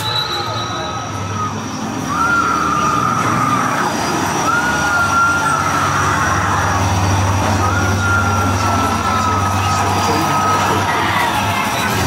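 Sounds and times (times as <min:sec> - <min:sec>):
high wailing tone: 0:00.0 - 0:12.0
low steady drone: 0:01.0 - 0:12.0.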